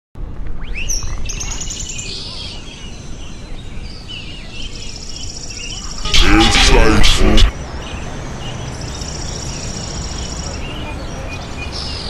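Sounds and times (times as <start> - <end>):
birds chirping and singing: 0.6 - 12.0.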